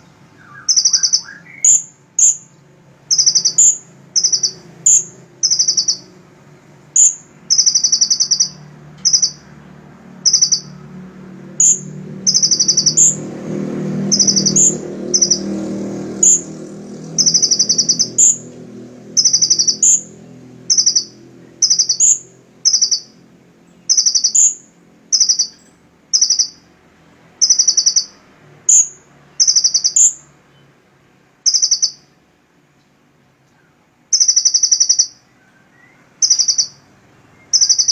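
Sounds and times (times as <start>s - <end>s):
songbird rattling call: 0.0s - 9.5s, 10.2s - 26.7s, 27.4s - 30.3s, 31.4s - 32.2s, 34.1s - 37.9s.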